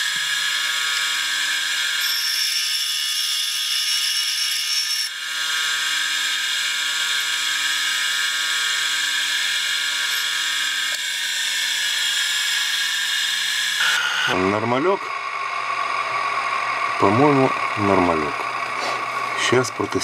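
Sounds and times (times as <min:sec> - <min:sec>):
bench grinder grinding metal: 0:00.0 - 0:20.0.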